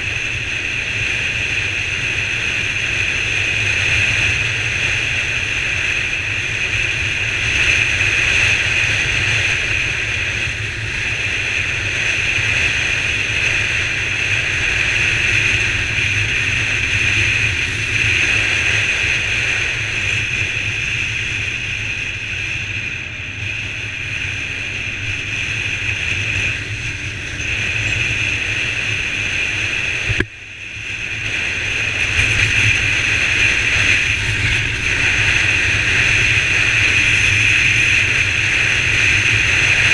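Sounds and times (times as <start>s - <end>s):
motorcycle engine: 0.0s - 39.9s
wind rush: 0.0s - 39.9s.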